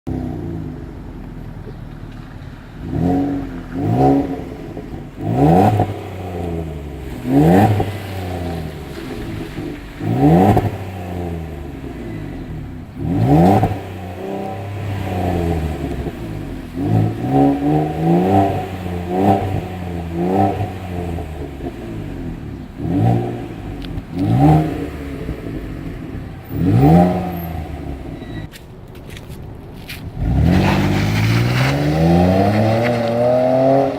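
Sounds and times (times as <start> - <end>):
car engine revving: 0.1 - 28.5, 30.1 - 33.9.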